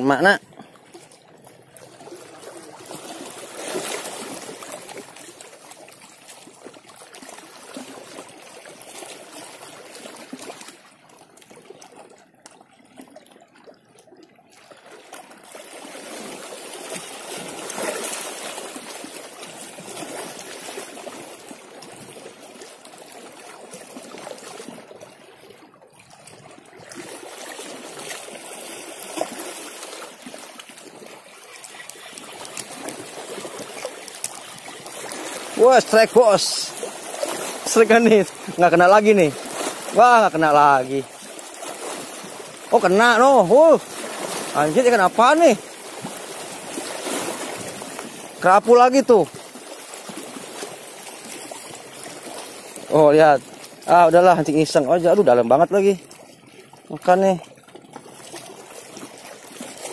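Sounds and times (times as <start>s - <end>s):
waves lapping among rocks: 0.0s - 59.9s.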